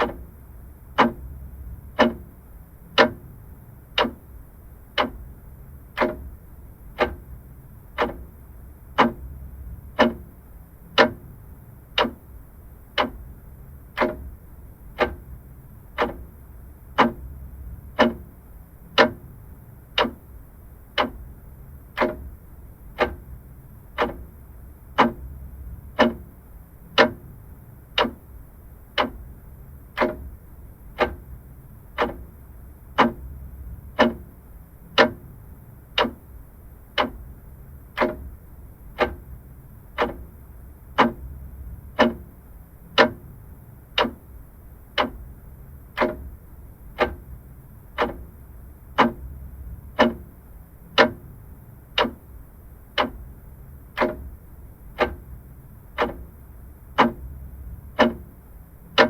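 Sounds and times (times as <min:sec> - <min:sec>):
faint low rumble: 0:00.0 - 0:59.0
mechanical clock ticking: 0:00.0 - 0:59.0.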